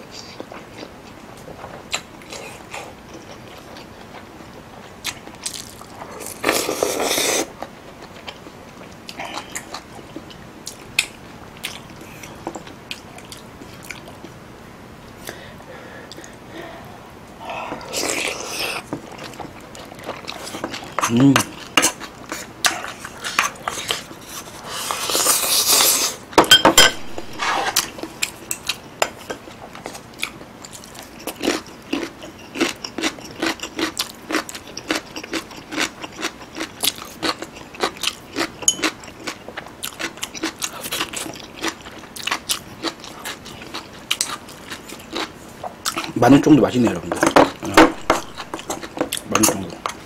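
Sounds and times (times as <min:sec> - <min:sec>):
chewing with mouth clicks: 0:00.1 - 0:14.4, 0:17.7 - 0:26.0, 0:27.7 - 0:46.2.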